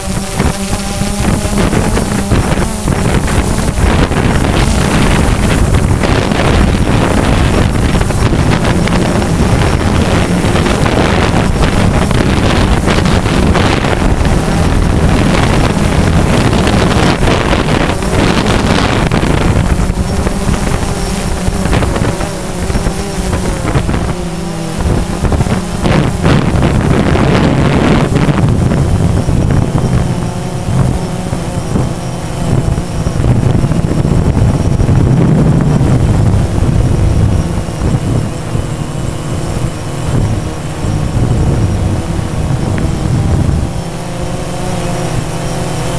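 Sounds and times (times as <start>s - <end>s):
drone propellers buzzing: 0.0s - 45.9s
wind buffeting microphone: 0.0s - 45.9s.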